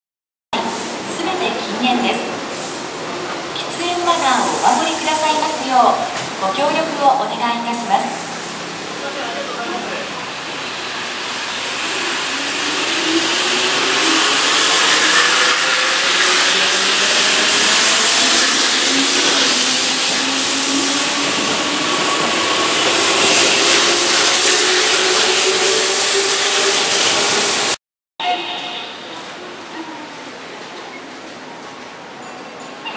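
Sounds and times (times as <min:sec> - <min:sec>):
running train noise: 0:00.6 - 0:32.9.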